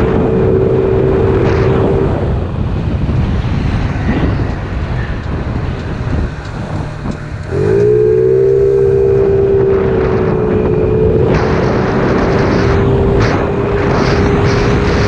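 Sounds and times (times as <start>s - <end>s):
scooter engine revving: 0.0s - 15.0s
wind noise: 0.0s - 15.0s.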